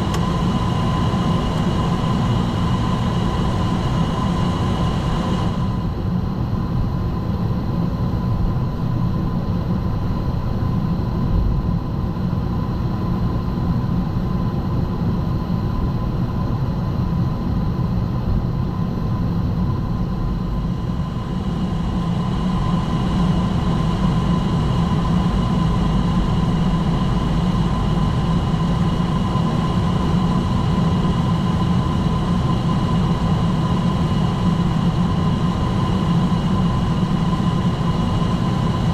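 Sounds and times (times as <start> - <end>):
aircraft engine and airflow rumble: 0.0 - 38.9.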